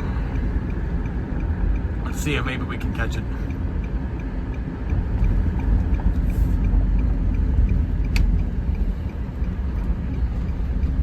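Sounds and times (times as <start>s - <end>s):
engine and road rumble: 0.0s - 11.0s
faint ticking: 0.0s - 11.0s.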